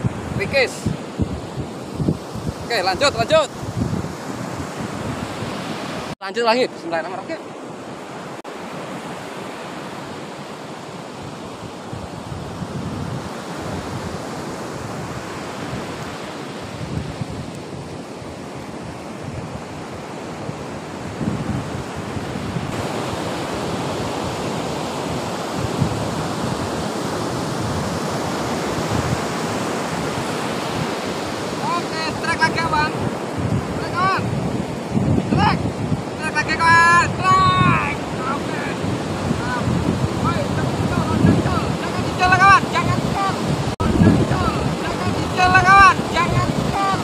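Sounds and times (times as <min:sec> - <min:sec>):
surf breaking on beach: 0:00.0 - 0:47.0.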